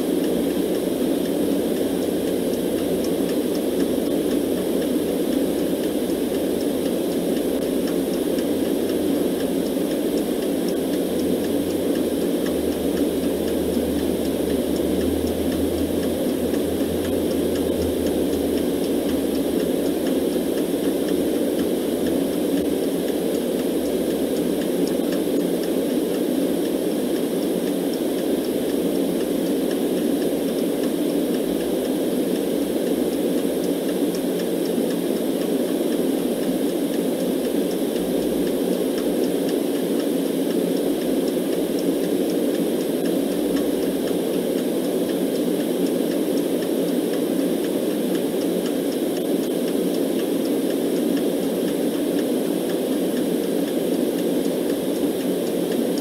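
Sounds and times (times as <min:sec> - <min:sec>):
deep white-noise rush: 0:00.0 - 0:56.0
mechanical clock ticking: 0:00.0 - 0:56.0.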